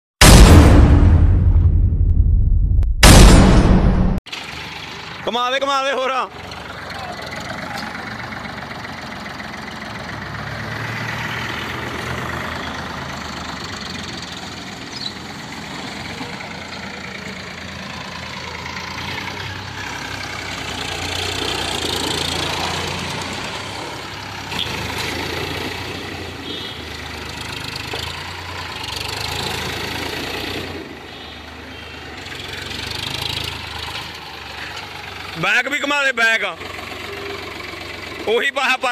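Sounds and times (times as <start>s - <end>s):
tractor engine running: 6.3s - 31.0s, 32.1s - 38.6s.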